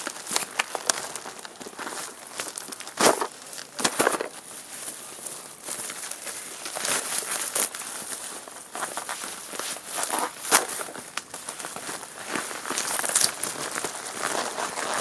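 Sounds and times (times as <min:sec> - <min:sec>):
plastic packaging rustling and crinkling: 0:00.0 - 0:15.0.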